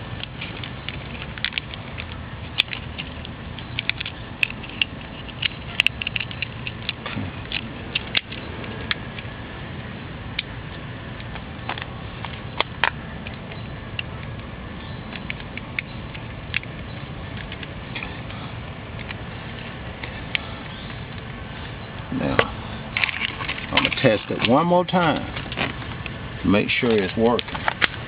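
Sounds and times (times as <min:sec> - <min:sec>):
low background noise: 0:00.0 - 0:28.0.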